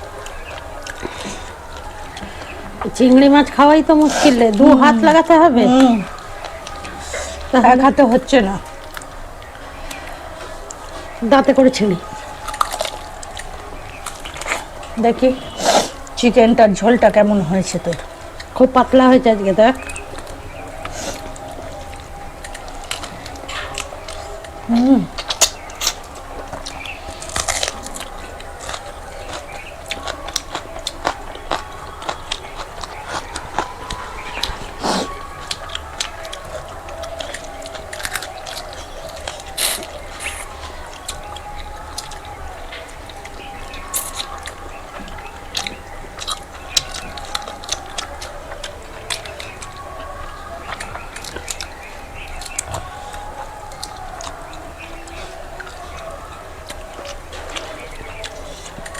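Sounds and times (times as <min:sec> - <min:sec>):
lip smacks: 0:00.0 - 0:16.6, 0:19.6 - 0:58.9
people chewing food: 0:00.0 - 0:58.9.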